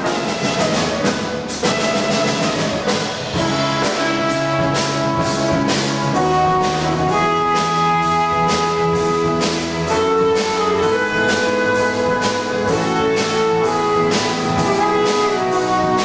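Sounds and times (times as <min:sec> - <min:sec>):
drum kit with cymbal strikes: 0:00.0 - 0:16.0
grand piano: 0:00.0 - 0:16.0
saxophone melody: 0:00.0 - 0:16.0.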